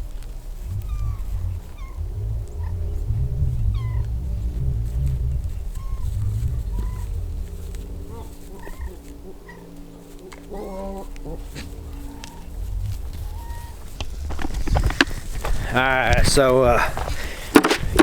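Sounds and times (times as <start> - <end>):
birds chirping: 0.0 - 18.0
low hum: 0.0 - 18.0
wind rumble: 0.0 - 18.0.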